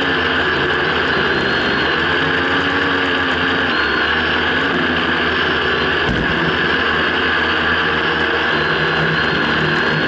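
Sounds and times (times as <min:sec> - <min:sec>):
drone motors and propellers: 0:00.0 - 0:10.0.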